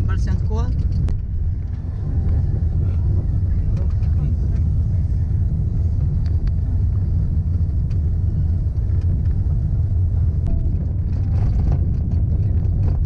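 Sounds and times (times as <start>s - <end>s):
car rumbling on gravel road: 0.0s - 13.0s
gravel ticks: 0.0s - 13.0s.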